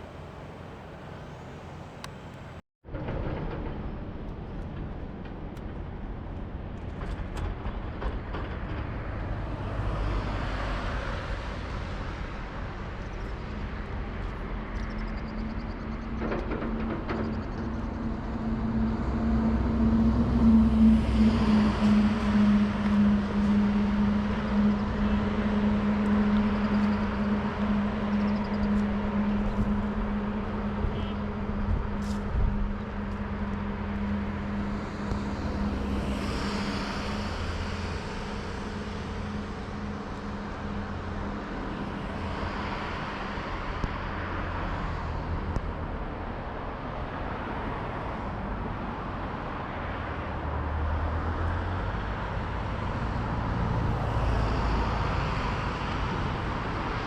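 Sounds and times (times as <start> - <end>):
passing traffic: 0.0 - 57.0
steady engine hum: 0.0 - 57.0.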